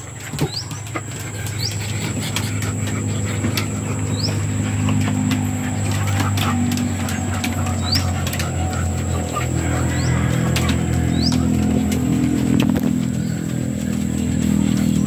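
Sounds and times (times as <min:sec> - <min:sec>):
faint clicks and taps: 0:00.0 - 0:15.0
low motor hum: 0:00.0 - 0:15.0.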